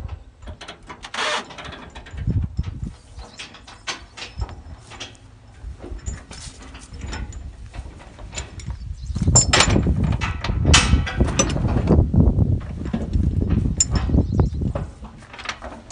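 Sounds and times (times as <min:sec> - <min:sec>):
chains clanking on wooden deck: 0:00.0 - 0:15.9.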